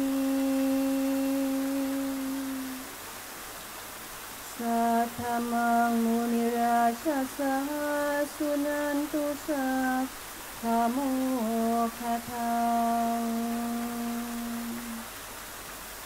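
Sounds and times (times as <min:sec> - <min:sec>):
woman singing chant-like melody: 0:00.0 - 0:02.9, 0:04.4 - 0:15.1.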